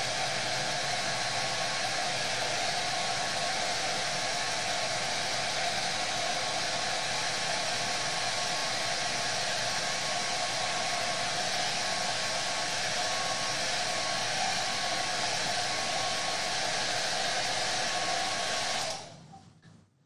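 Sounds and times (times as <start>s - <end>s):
hair dryer blowing air: 0.0s - 19.2s.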